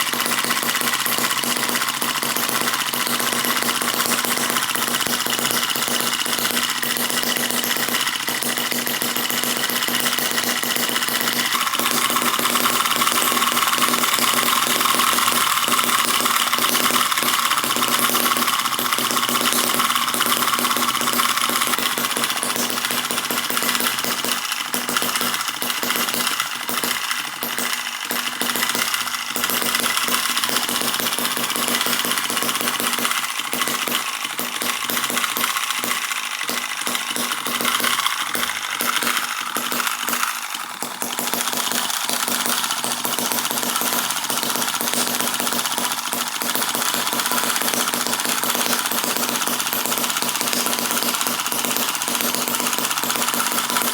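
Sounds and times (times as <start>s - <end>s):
model engine running fast: 0.0s - 53.9s.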